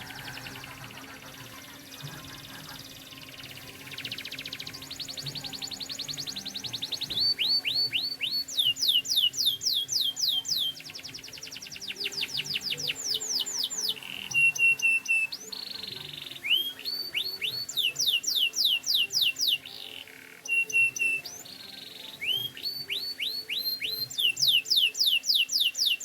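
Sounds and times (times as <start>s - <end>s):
canary singing: 0.0s - 26.0s.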